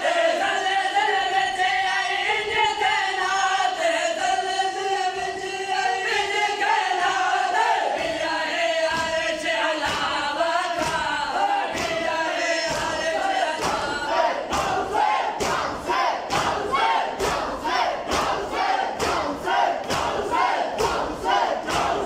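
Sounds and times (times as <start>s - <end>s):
men chanting in chorus: 0.0s - 22.0s.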